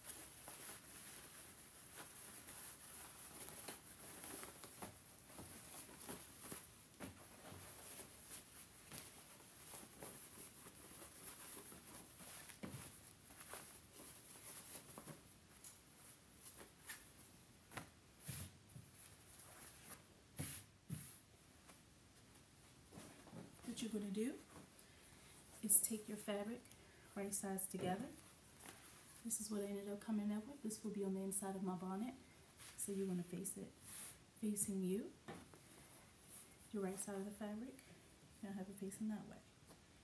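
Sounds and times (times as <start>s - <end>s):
fabric rustling: 0.0s - 31.2s, 32.2s - 38.4s.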